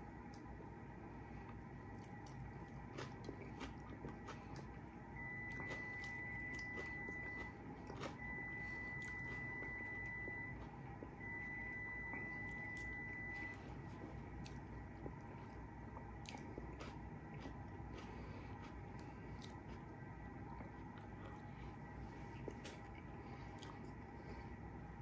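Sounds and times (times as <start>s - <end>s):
chewing: 0.3s - 24.4s.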